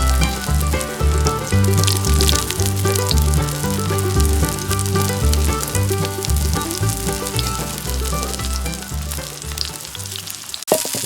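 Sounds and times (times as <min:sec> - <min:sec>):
background music: 0:00.0 - 0:10.5
mushroom frying in oil: 0:00.0 - 0:11.0.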